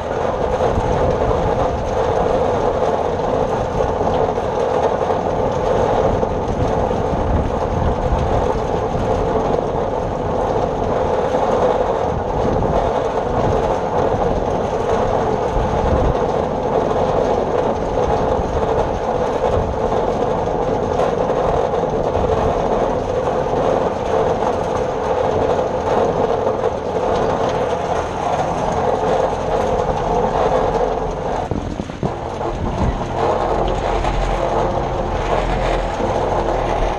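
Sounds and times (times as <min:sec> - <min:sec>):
hay baler running: 0:00.0 - 0:36.9.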